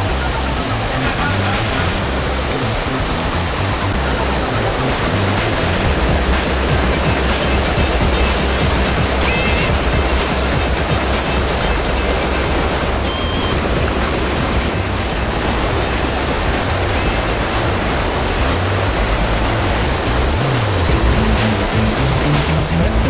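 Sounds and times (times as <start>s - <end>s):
low background music: 0.0s - 23.0s
stream rushing over waterfalls: 0.0s - 23.0s.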